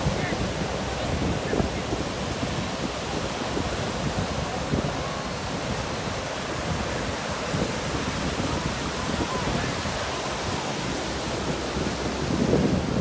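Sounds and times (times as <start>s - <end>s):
sea surf breaking: 0.0s - 13.0s
wind rumbling on microphone: 0.0s - 13.0s.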